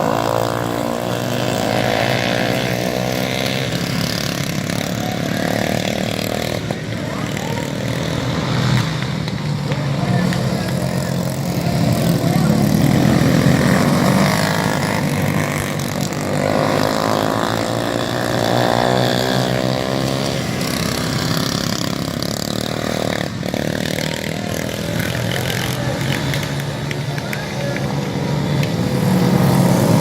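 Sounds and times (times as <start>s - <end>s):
motorcycle engines running hard: 0.0s - 30.0s
motorcycle passing by: 0.0s - 30.0s.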